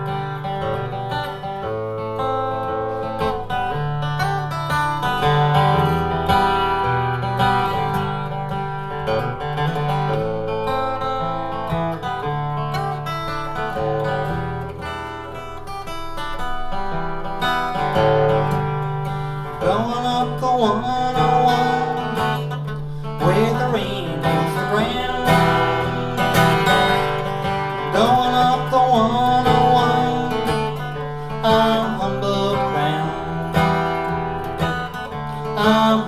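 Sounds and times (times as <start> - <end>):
guitar strumming: 0.0 - 36.0.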